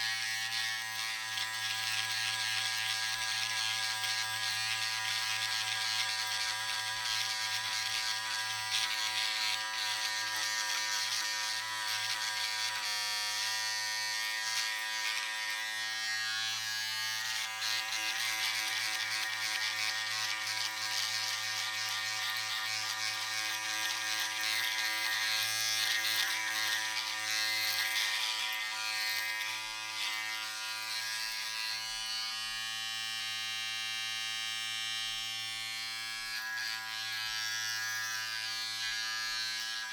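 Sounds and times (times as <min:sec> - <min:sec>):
electric razor buzzing: 0:00.0 - 0:39.9.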